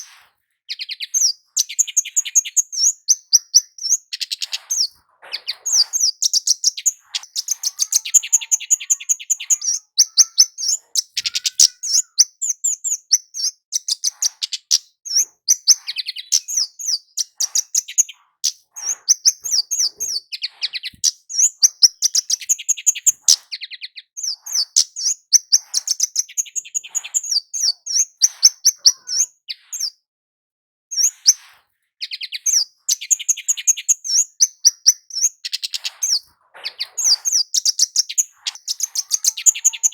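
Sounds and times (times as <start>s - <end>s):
bird chirping and trilling: 0.7s - 30.0s, 30.9s - 31.4s, 32.0s - 39.9s.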